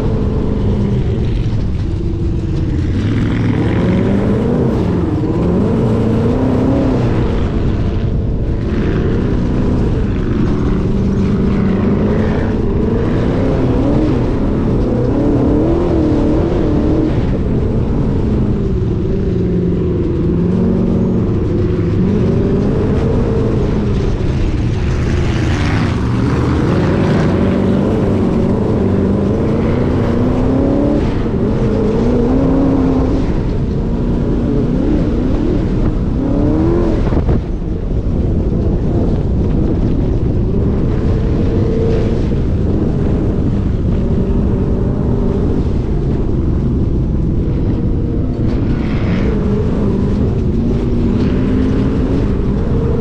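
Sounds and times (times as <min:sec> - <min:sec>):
dune buggy engine running: 0:00.0 - 0:53.0
steady rush of noise: 0:00.0 - 0:53.0.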